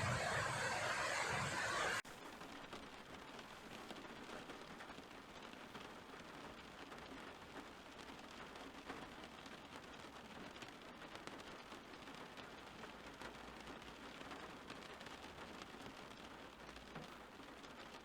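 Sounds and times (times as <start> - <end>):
rain pattering: 0.0 - 18.0
rumbling rain: 0.0 - 18.0.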